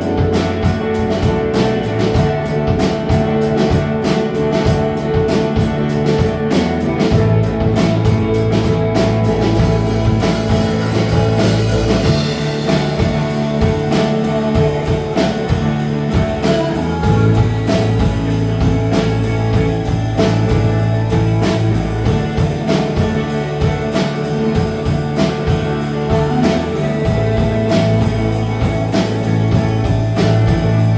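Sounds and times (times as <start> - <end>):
drum kit beat: 0.0 - 30.9
guitar: 0.0 - 30.9
live rock band playing: 0.0 - 30.9.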